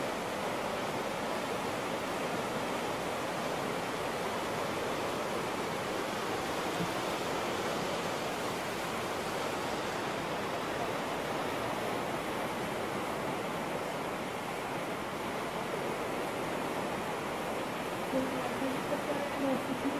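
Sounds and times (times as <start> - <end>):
whitewater rapids rushing: 0.0 - 19.9.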